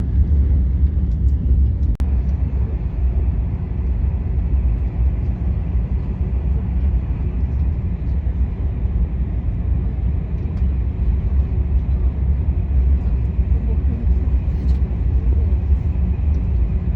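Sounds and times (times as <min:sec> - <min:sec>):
high-speed train running: 0:00.0 - 0:16.9.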